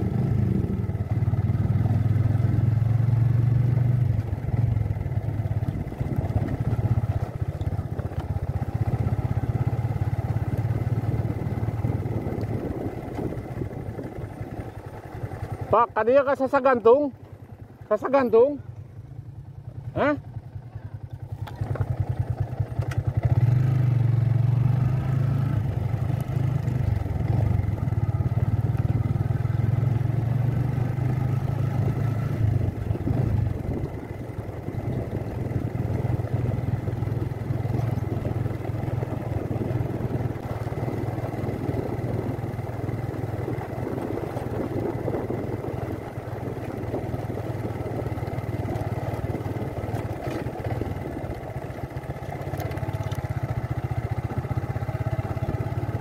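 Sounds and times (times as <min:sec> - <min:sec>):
motorcycle engine running: 0:00.0 - 0:56.0
rattle on dirt track: 0:04.1 - 0:18.6, 0:19.7 - 0:56.0.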